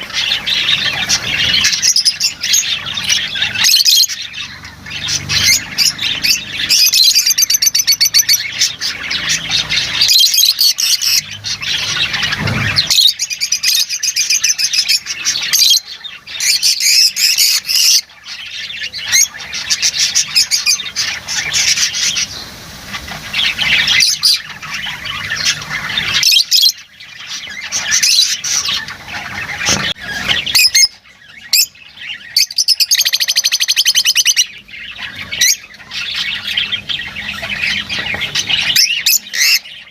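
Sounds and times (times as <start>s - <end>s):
lovebirds chattering and squawking: 0.0s - 39.9s.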